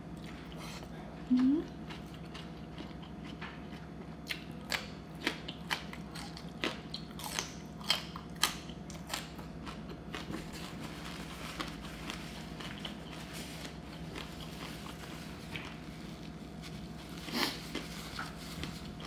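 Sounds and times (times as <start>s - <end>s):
faint steady hum: 0.0s - 19.0s
person crunching raw vegetables: 1.8s - 19.0s.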